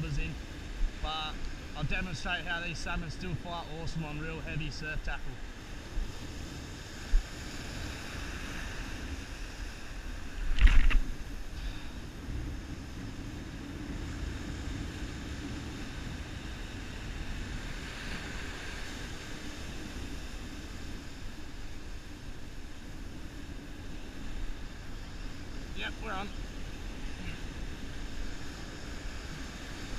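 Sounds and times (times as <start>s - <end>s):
surf washing up beach: 0.0s - 29.9s.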